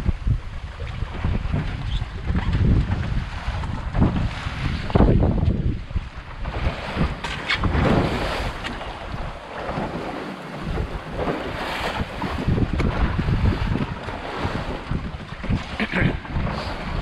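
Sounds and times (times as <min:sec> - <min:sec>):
water splashing past boat hull: 0:00.0 - 0:17.0
wind buffeting microphone: 0:00.0 - 0:17.0.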